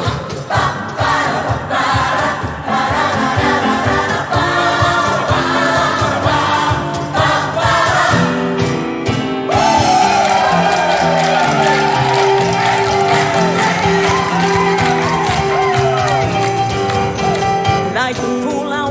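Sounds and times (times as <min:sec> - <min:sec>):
gospel choir singing: 0:00.0 - 0:18.2
band with steady drum beat: 0:00.0 - 0:18.6.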